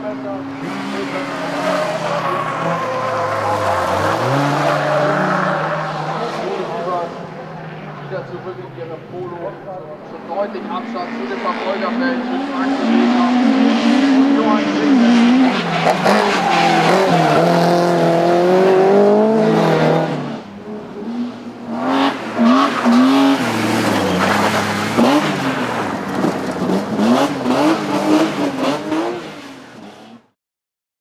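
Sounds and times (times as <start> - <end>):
race car engines at full throttle: 0.0 - 30.4
car engine revving in bursts: 0.3 - 8.0, 10.5 - 30.2.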